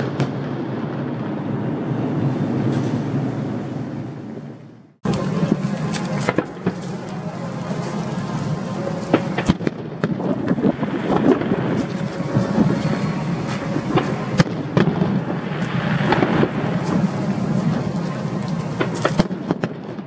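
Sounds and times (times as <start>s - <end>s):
fireworks bangs and crackling: 0.0s - 20.0s
steady low rumble: 0.0s - 20.0s.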